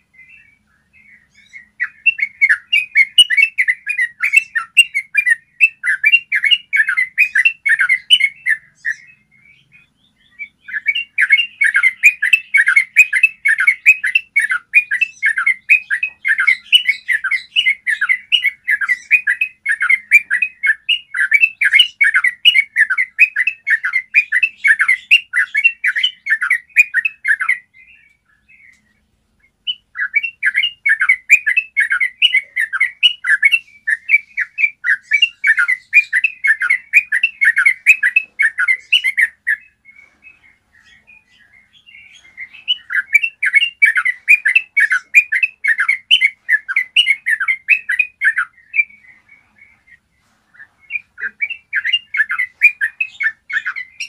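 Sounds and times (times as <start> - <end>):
bird singing chattering notes: 0.0 - 54.0.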